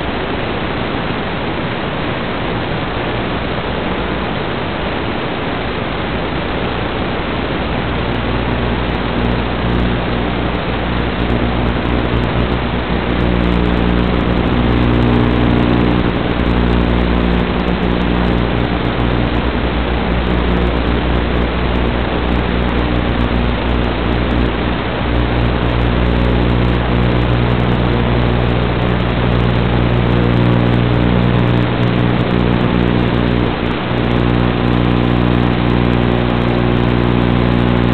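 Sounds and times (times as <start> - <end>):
low buzzing hum: 0.0 - 37.9
radio static hiss: 0.0 - 37.9.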